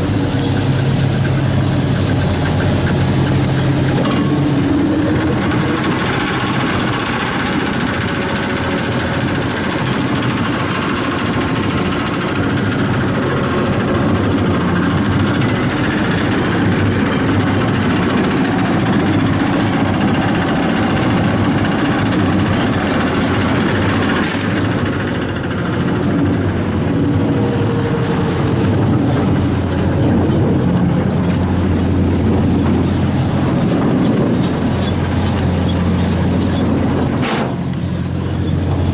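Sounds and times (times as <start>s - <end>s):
hay baler machinery: 0.0s - 38.9s
tractor engine running: 0.0s - 38.9s.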